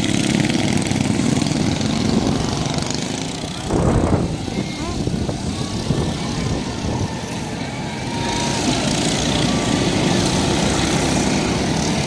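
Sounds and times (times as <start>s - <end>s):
mini bike engines racing: 0.0s - 12.0s.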